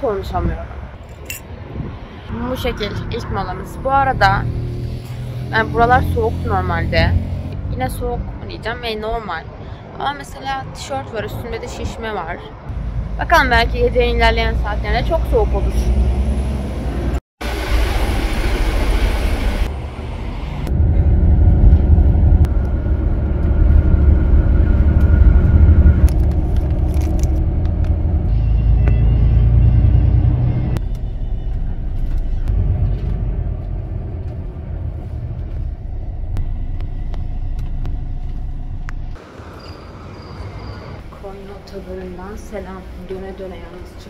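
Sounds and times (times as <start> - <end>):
bus engine rumble: 0.0 - 44.0
road noise: 0.0 - 44.0.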